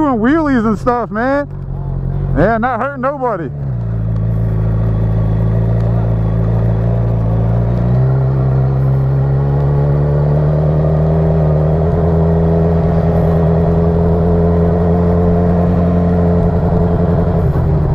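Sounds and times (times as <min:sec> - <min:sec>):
vehicle engine running: 0:00.0 - 0:17.9.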